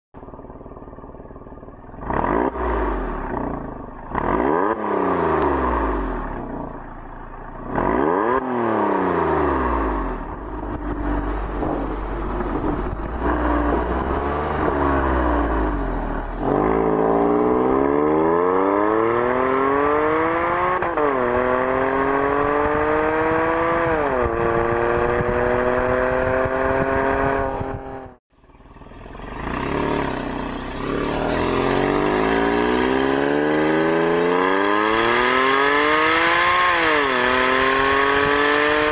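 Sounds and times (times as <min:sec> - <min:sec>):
sports car engine revving: 0:01.8 - 0:38.9.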